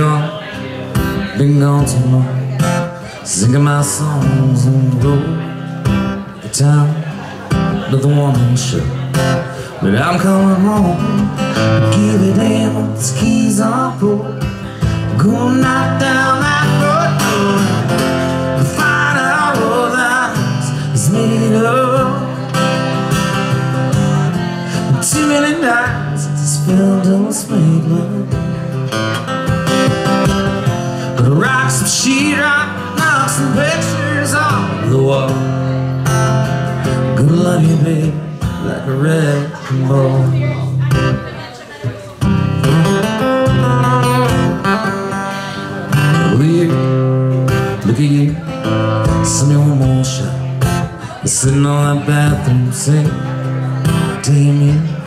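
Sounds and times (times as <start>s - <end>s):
man singing: 0.0s - 41.4s, 42.2s - 55.0s
acoustic guitar strumming: 0.0s - 55.0s.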